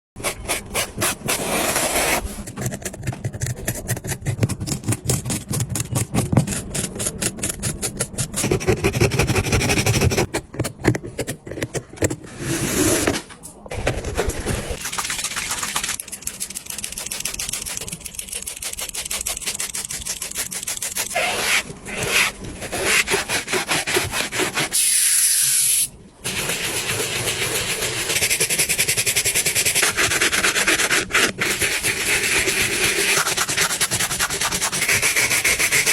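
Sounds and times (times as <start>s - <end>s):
scrubbing and sanding a sneaker: 0.2s - 10.3s, 14.3s - 25.0s, 26.2s - 35.9s.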